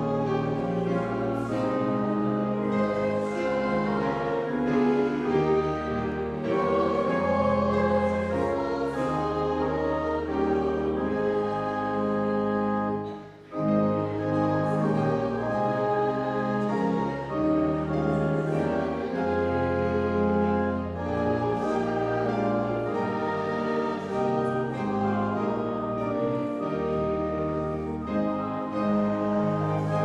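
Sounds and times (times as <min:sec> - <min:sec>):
church organ playing a hymn: 0:00.0 - 0:30.0.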